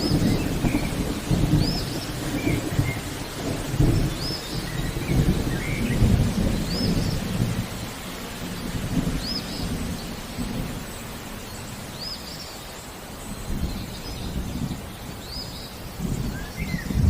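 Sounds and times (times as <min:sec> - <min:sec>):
thunder rumbling: 0:00.0 - 0:12.1, 0:13.3 - 0:17.0
steady rain: 0:00.0 - 0:17.0.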